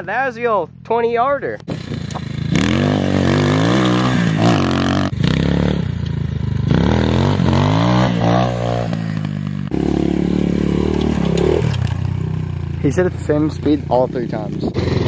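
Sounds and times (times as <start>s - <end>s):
dirt bike engine revving: 1.6s - 15.0s.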